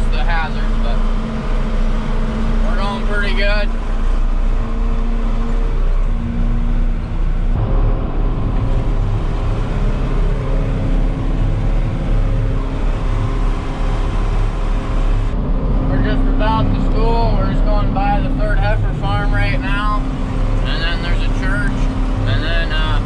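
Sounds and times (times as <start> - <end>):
tractor engine droning: 0.0 - 23.0.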